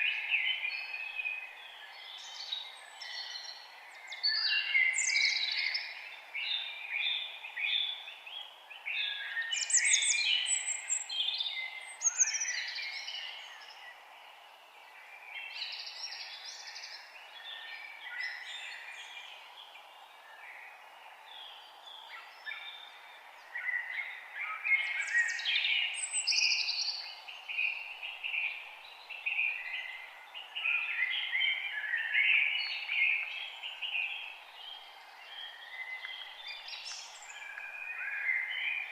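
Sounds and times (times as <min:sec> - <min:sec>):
faint steady background hiss: 0:00.0 - 0:38.9
songbirds chirping and singing: 0:00.0 - 0:38.9.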